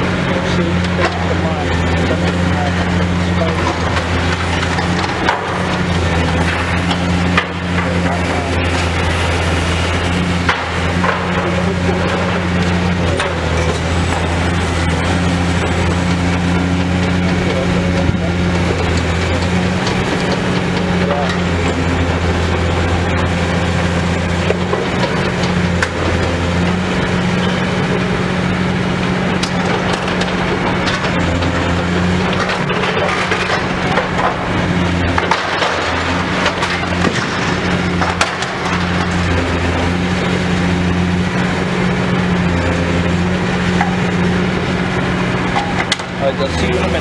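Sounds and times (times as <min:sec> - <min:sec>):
debris cracking and crunching: 0:00.0 - 0:47.0
diesel engine humming: 0:00.0 - 0:47.0.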